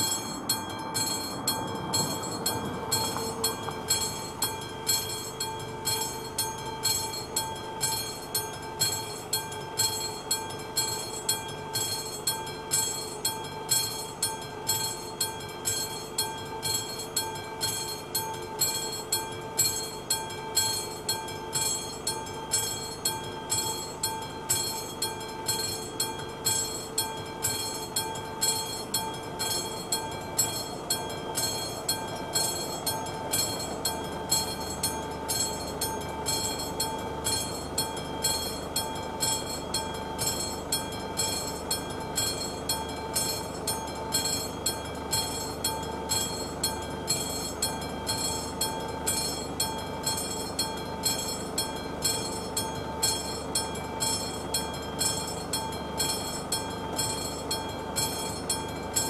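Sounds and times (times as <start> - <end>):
level crossing bell ringing: 0.0 - 59.0.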